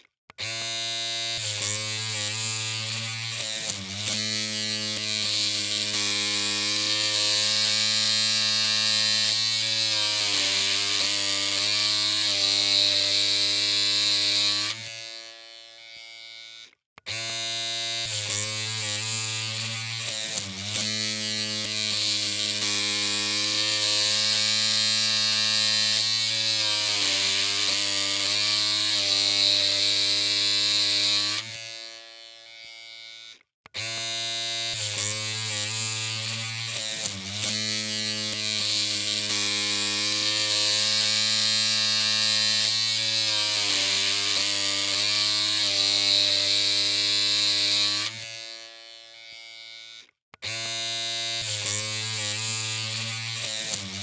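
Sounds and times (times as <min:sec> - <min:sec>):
electric hair clippers humming: 0:00.0 - 0:54.0.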